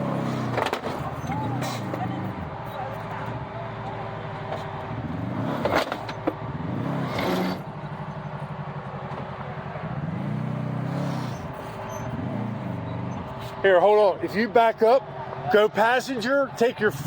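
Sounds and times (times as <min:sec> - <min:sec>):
utility vehicle engine revving: 0:00.0 - 0:15.5.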